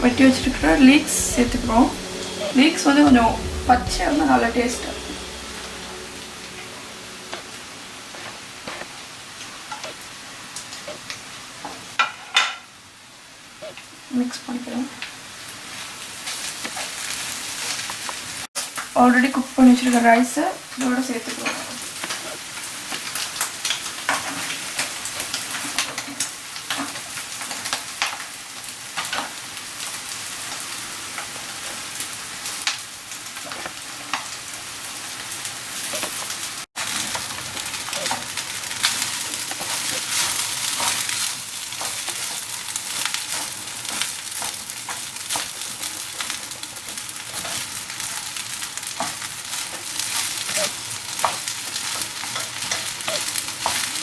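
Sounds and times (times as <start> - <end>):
rice sizzling in a pan: 0.0 - 9.0, 10.8 - 18.9, 19.8 - 54.0.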